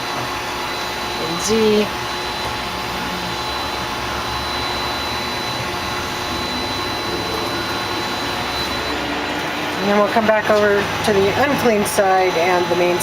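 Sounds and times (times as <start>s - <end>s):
lathe whirring drone: 0.0s - 13.0s
thin high whine: 0.0s - 13.0s.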